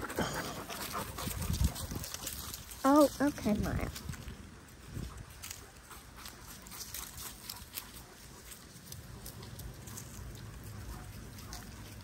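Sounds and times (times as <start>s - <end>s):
dog feet pattering on ground: 0.0s - 12.0s.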